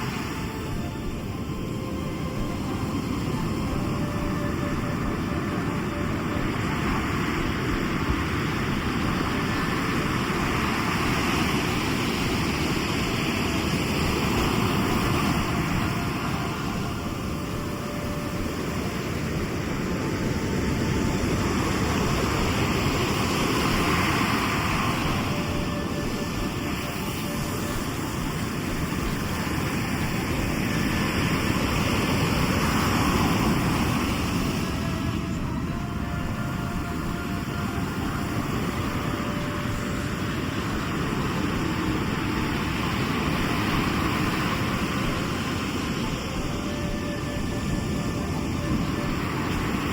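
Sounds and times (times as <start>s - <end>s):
sea surf washing ashore: 0.0s - 49.9s.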